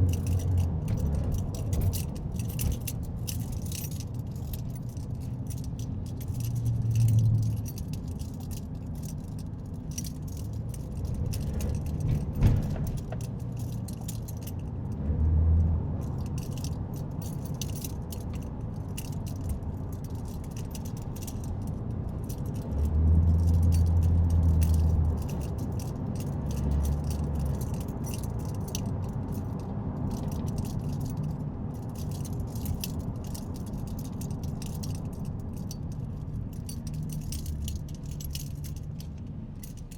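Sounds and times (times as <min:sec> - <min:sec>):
keys jangling: 0:00.0 - 0:15.0, 0:16.0 - 0:39.9
car road rumble: 0:00.0 - 0:39.9.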